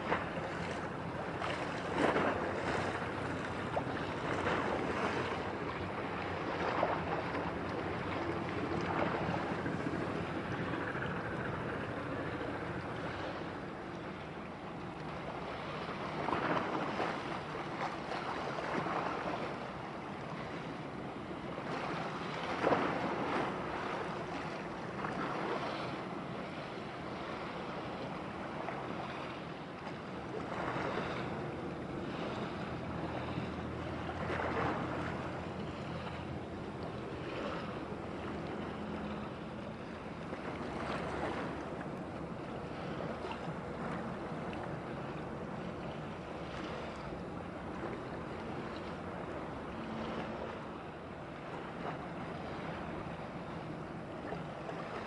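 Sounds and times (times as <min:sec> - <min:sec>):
sea water washing: 0:00.0 - 0:55.0
wind: 0:00.0 - 0:55.0.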